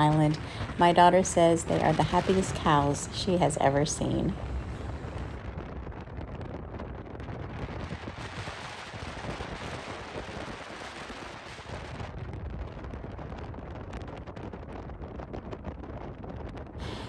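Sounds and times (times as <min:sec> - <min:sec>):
crackling wind gusts: 0:00.0 - 0:17.0
wind buffeting microphone: 0:00.0 - 0:17.0.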